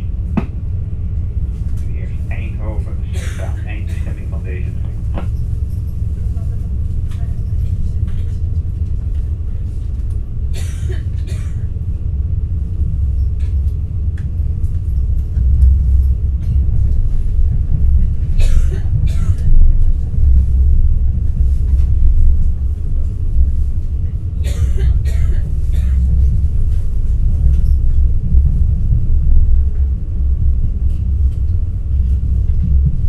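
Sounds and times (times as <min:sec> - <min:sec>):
train running rumble: 0:00.0 - 0:33.0.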